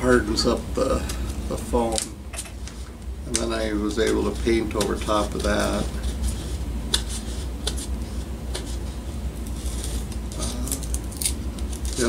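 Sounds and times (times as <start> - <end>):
low hum: 0.0 - 12.0
tape peeling and crackling: 1.8 - 12.0.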